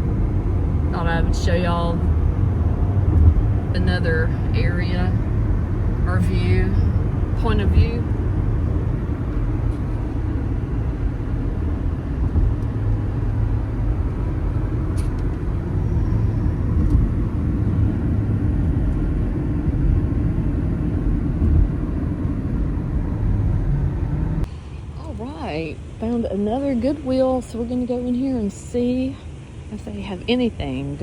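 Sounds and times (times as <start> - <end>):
air conditioning fan: 0.0 - 31.0
car driving rumble: 0.0 - 31.0.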